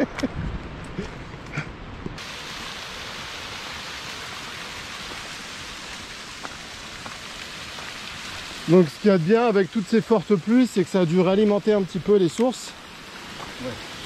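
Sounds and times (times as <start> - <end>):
rushing stream water: 2.2 - 14.0.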